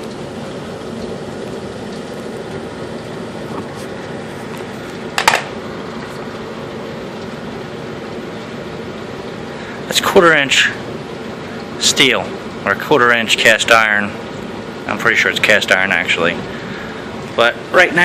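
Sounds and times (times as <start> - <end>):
furnace burning with fan hum: 0.0 - 18.0.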